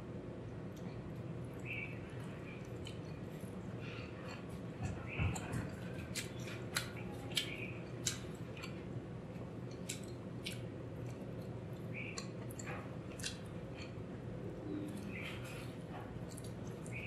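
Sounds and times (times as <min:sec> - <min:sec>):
close chewing with mouth clicks: 0:00.5 - 0:17.0.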